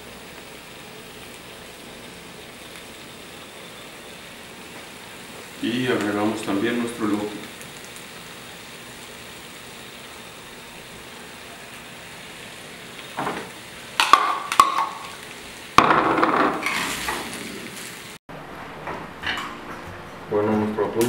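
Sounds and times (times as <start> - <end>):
food sizzling in a pan: 0.0 - 18.2.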